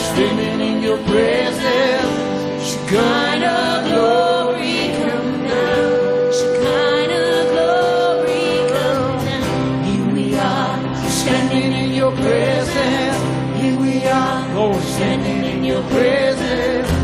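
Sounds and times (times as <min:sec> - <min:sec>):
band accompaniment: 0:00.0 - 0:17.0
worship singing: 0:00.0 - 0:17.0.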